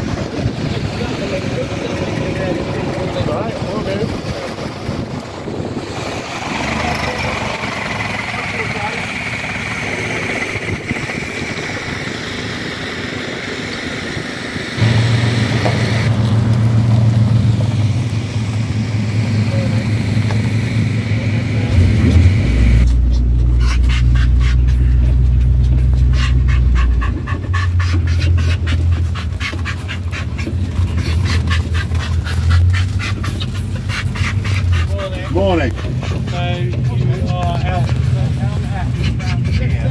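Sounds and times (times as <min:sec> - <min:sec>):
car engines rumbling: 0:00.0 - 0:39.9.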